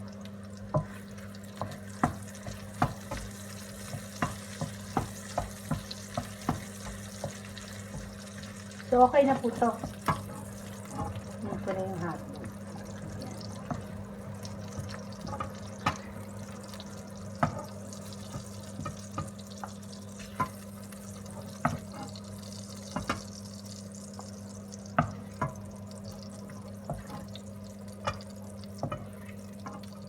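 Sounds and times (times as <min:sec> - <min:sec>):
hot oil popping and sizzling: 0:00.0 - 0:30.0
steady low hum: 0:00.0 - 0:30.0.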